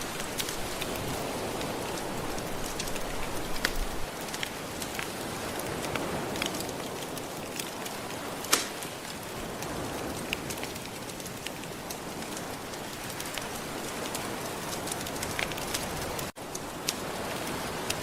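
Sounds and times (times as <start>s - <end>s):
ocean waves washing on shore: 0.0s - 18.0s
wood fire crackling: 0.0s - 18.0s.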